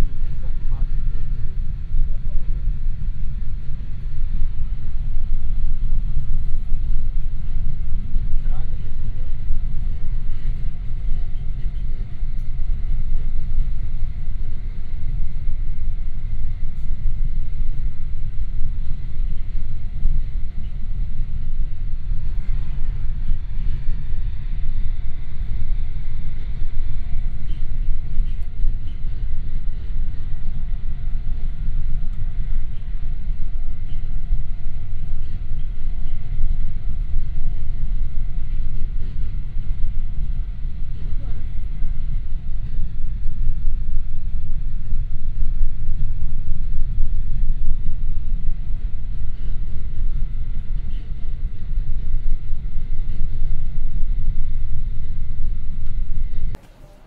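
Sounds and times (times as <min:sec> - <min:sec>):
faint steady whine: 0:00.0 - 0:57.0
train rumble on rails: 0:00.0 - 0:57.0.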